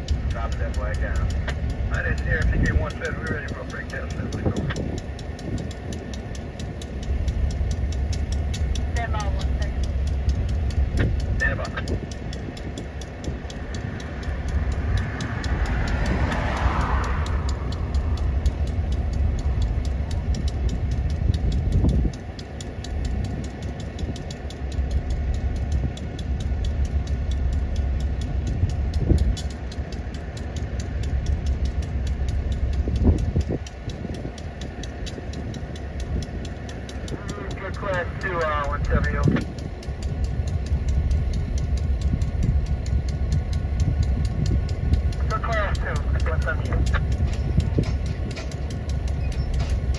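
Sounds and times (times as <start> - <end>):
diesel locomotive engine rumbling: 0.0 - 49.9.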